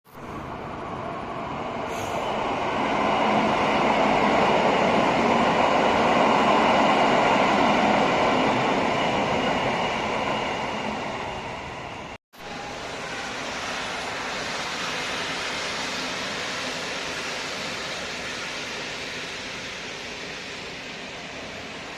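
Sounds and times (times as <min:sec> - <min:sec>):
train wheels rumbling on rails: 0:00.1 - 0:21.9.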